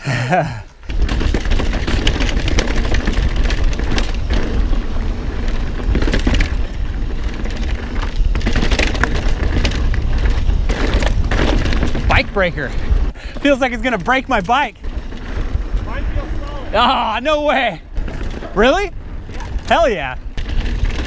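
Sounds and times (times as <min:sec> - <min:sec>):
bike tyre noise: 0:00.0 - 0:21.0
bike rattling over bumps: 0:00.8 - 0:21.0
wind buffeting microphone: 0:00.9 - 0:21.0.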